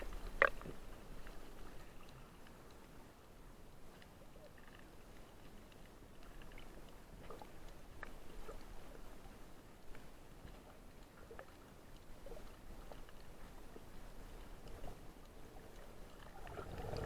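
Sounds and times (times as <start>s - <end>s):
faint water noise: 0.0s - 17.0s
small clicks and crackles: 0.0s - 17.0s.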